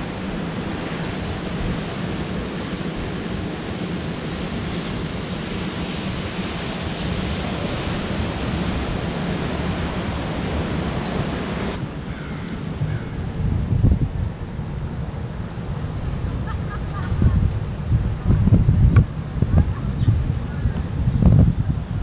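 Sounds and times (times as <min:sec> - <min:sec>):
dull wind rumble: 0:00.0 - 0:22.0
ocean surf: 0:00.0 - 0:22.0
wind: 0:00.0 - 0:22.0.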